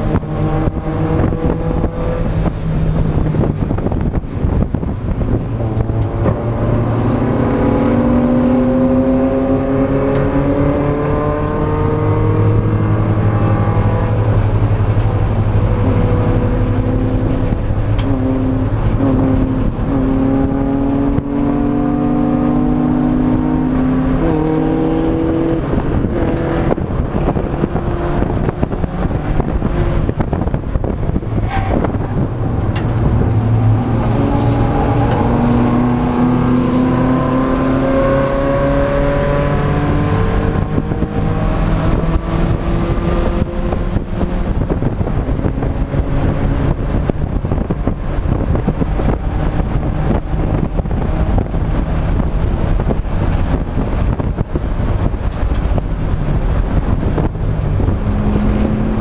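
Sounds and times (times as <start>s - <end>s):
race car engine accelerating: 0.0s - 59.0s
wind and road noise: 0.0s - 59.0s.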